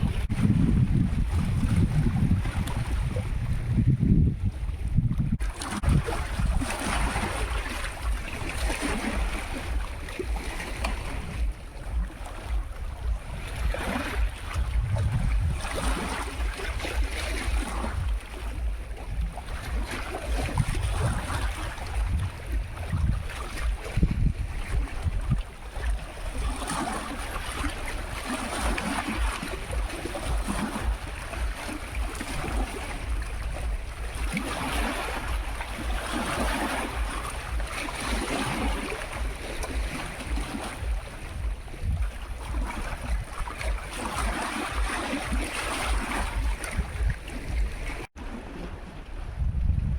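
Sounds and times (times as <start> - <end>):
waves washing onto shore: 0.0 - 49.9
wind buffeting microphone: 0.0 - 49.9.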